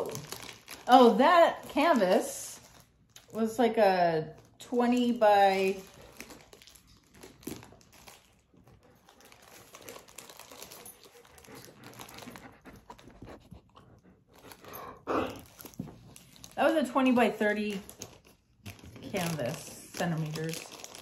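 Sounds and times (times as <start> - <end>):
plastic packaging crinkling: 0.0 - 13.2, 14.3 - 21.0.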